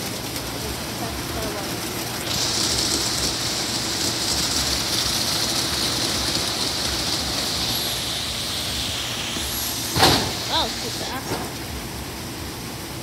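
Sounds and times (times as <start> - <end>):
car wash brushes hissing: 0.0 - 13.0
low machinery hum: 0.0 - 13.0.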